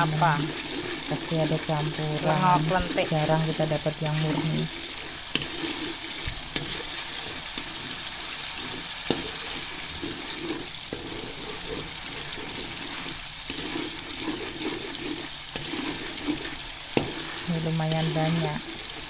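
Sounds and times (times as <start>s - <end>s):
coconut milk bubbling and sizzling: 0.0s - 19.0s.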